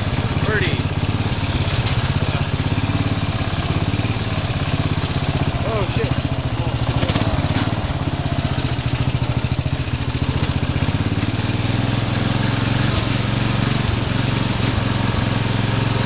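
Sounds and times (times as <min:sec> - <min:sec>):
riding mower engine running: 0:00.0 - 0:16.0.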